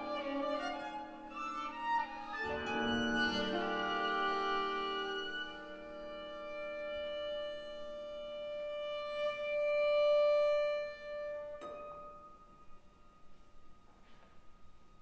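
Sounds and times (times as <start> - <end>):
violin long held notes: 0.0 - 13.4
chamber ensemble: 0.0 - 14.0.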